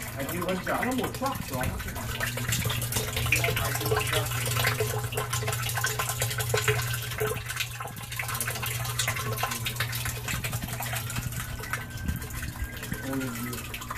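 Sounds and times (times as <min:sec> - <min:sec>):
pump hum: 0:00.0 - 0:13.9
water jet splashing into tub: 0:00.0 - 0:13.9.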